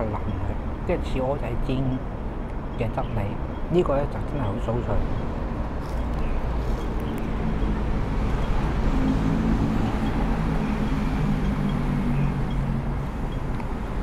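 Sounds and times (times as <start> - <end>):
engine hum: 0.0 - 14.0
road traffic rumble: 0.0 - 14.0.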